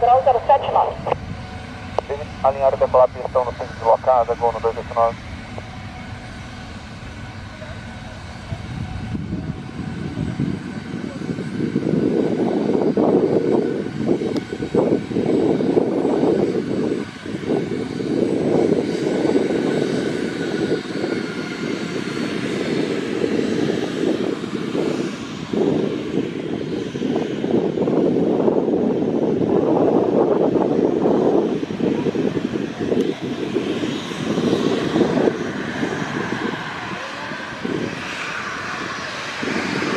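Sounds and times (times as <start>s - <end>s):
jet engines spooling up: 0.0s - 39.9s.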